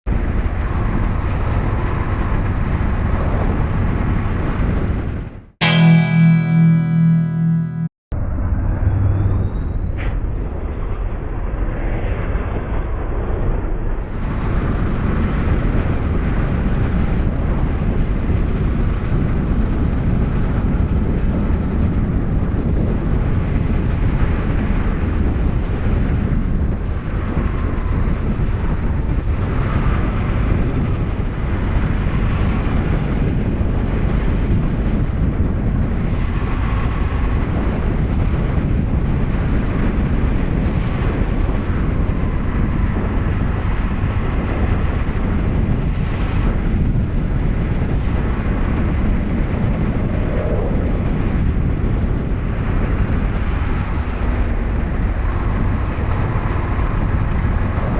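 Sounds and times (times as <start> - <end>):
wind rush on microphone: 0.1 - 5.5, 8.6 - 57.9.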